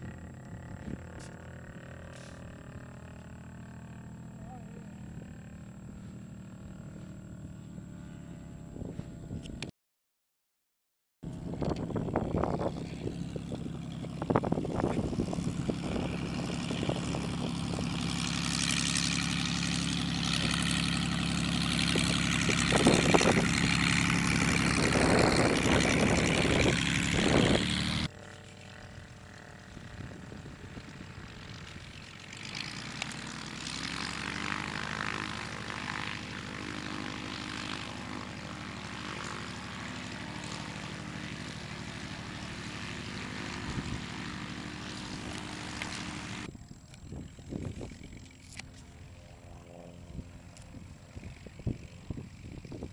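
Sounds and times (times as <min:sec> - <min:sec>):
light aircraft engine drone: 0:00.0 - 0:09.7, 0:11.2 - 0:52.9.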